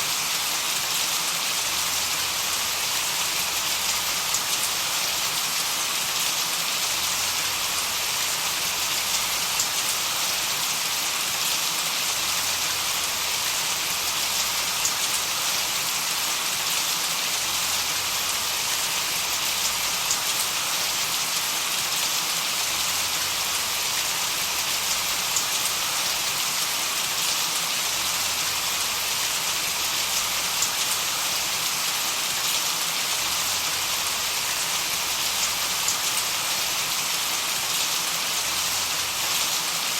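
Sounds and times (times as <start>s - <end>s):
steady noise hiss: 0.0s - 39.9s.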